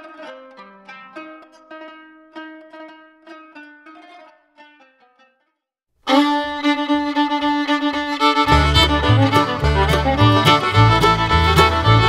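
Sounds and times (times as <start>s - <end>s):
plucked string intro music: 0.0s - 5.3s, 6.1s - 12.0s.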